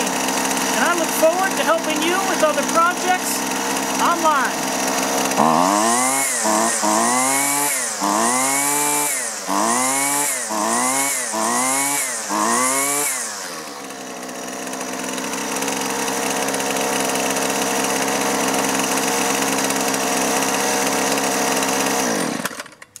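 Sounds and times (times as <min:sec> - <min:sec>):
string trimmer engine revving and idling: 0:00.0 - 0:23.0.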